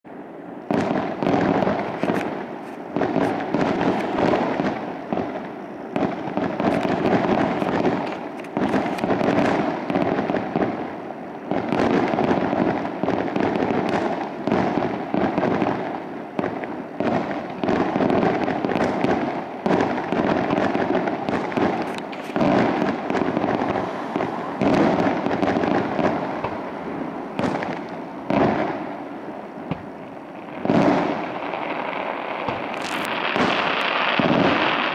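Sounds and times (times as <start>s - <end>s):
fireworks bangs: 0.1s - 34.9s
fireworks crackling: 0.1s - 34.9s.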